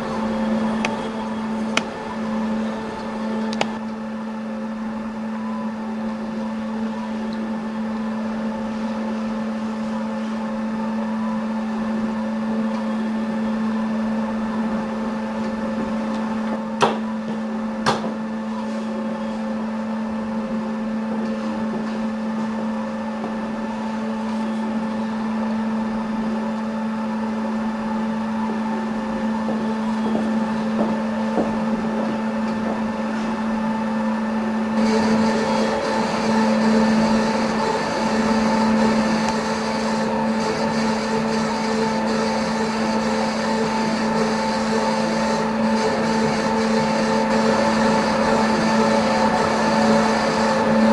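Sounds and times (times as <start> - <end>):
milling machine humming: 0.0 - 50.9.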